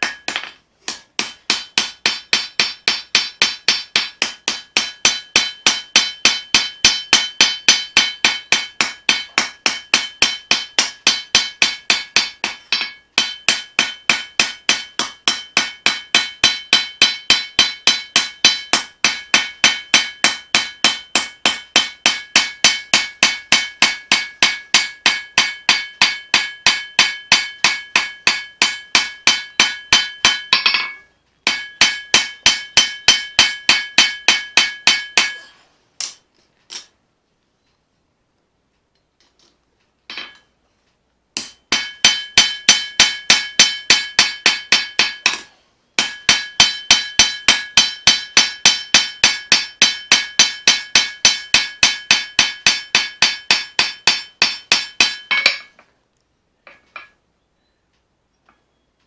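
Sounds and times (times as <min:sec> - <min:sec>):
hammer ringing on anvil: 0:00.0 - 0:35.6, 0:40.1 - 0:40.5, 0:41.4 - 0:55.8.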